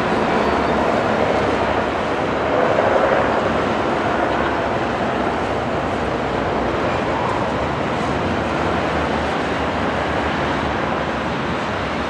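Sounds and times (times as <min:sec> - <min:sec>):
turboprop engines running: 0:00.0 - 0:12.0.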